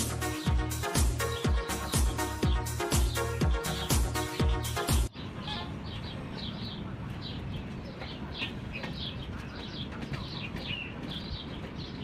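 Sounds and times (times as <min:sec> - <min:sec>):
bird chirping: 0:00.2 - 0:12.0.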